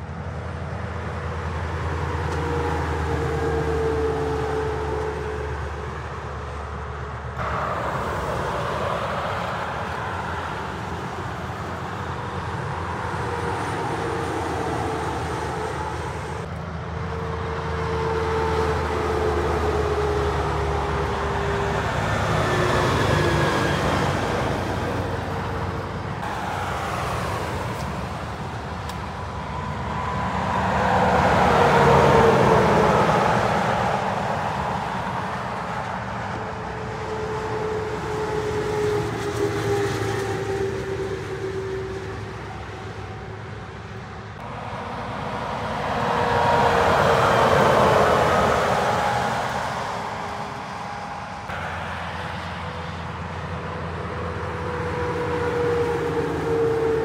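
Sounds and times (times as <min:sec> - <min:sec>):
trucks and traffic passing: 0:00.0 - 0:57.0.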